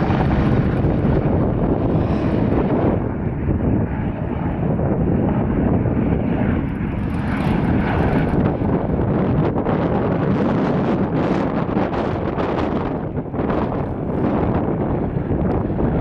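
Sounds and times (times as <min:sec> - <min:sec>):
helicopter rotor and turbine: 0:00.0 - 0:16.0
wind buffeting microphone: 0:00.0 - 0:16.0.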